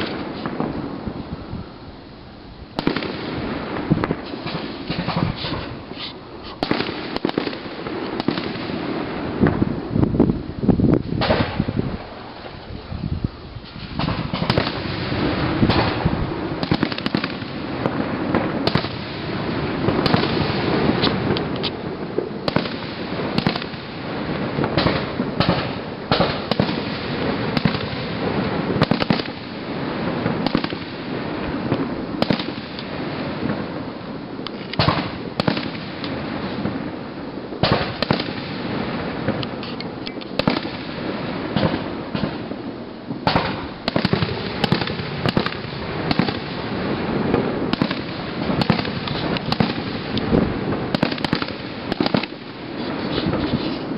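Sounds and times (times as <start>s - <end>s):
fireworks bangs: 0.0s - 53.9s
fireworks crackle: 0.0s - 53.9s.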